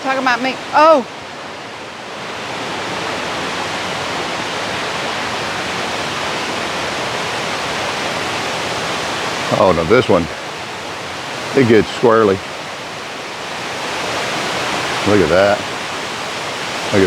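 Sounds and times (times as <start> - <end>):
creek water rushing over falls: 0.0 - 17.0.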